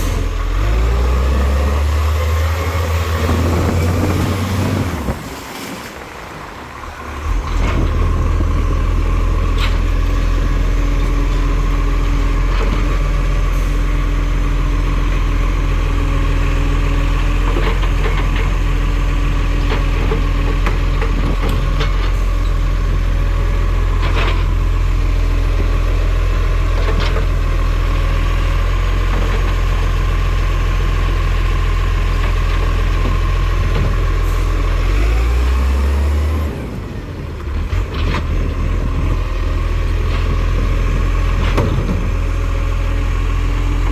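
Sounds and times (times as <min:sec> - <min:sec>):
garbage truck engine running: 0:00.0 - 0:43.9.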